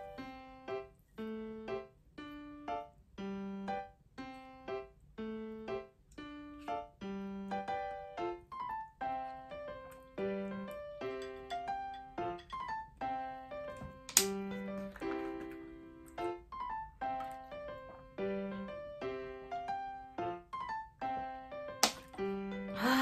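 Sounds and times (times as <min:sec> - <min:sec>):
electric piano tune: 0:00.0 - 0:23.0.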